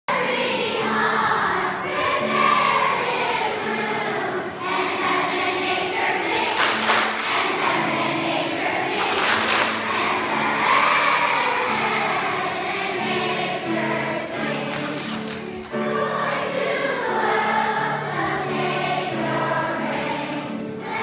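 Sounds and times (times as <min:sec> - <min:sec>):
children's choir singing: 0:00.1 - 0:21.0.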